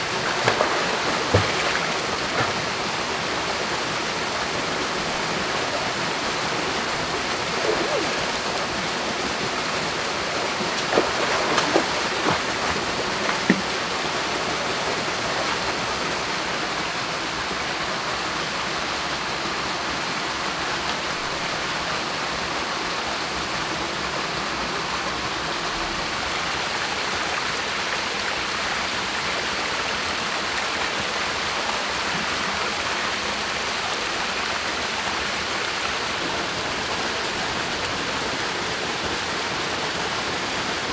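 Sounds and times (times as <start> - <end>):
waterfall pouring into pool: 0.0 - 40.9.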